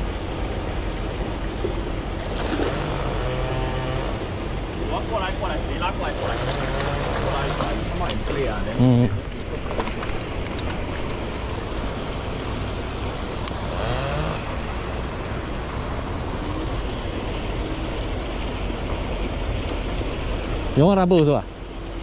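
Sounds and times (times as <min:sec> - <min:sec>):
low outdoor background noise: 0:00.0 - 0:22.0.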